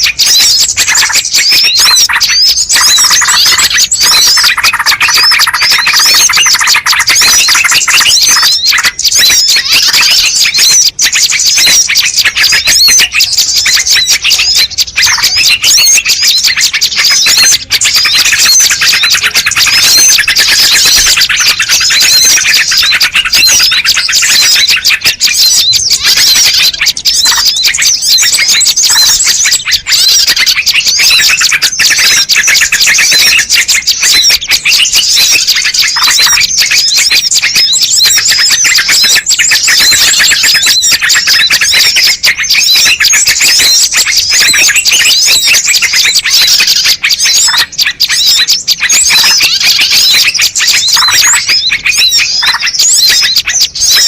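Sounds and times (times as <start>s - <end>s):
high-pitched bird chirps: 0.0s - 54.0s.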